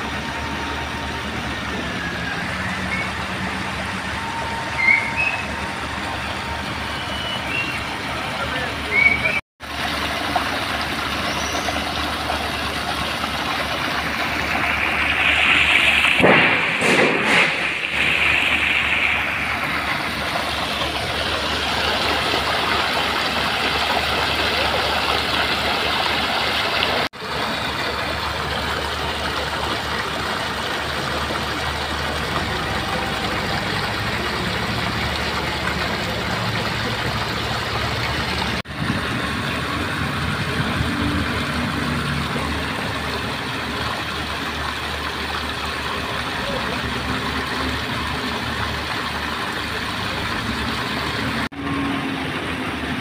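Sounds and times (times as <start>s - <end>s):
engine hum: 0.0s - 53.0s
water gushing into ditch: 0.0s - 53.0s.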